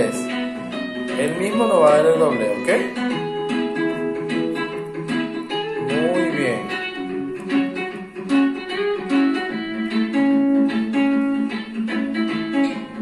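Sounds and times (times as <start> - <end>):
plucked guitar melody: 0.0 - 13.0.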